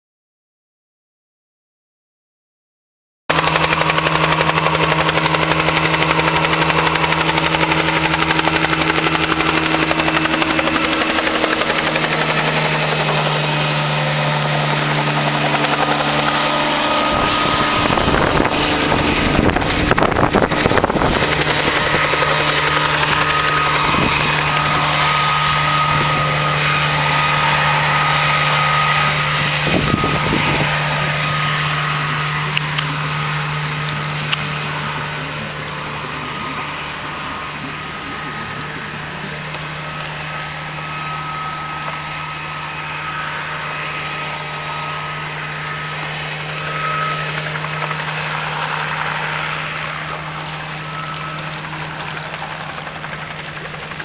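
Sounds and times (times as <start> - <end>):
helicopter engine and rotor drone: 3.3 - 54.0.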